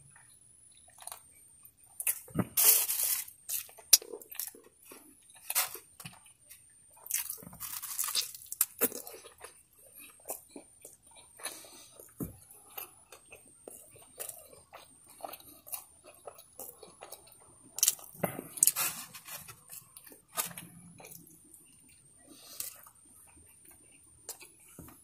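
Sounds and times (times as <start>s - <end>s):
wet chewing and lip-smacking: 3.4s - 25.0s.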